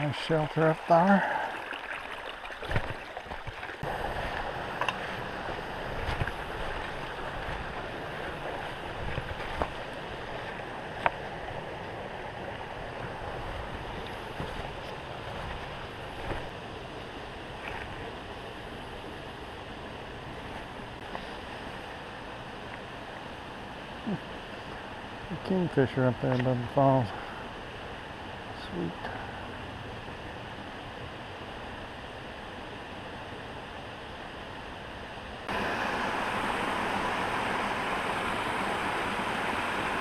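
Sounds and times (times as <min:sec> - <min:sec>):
creek water running over rocks: 0:00.0 - 0:29.5, 0:35.4 - 0:40.0.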